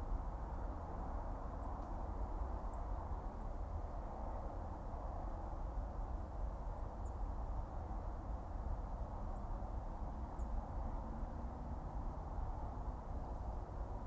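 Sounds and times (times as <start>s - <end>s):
car engine and tyres on road: 0.0s - 14.0s.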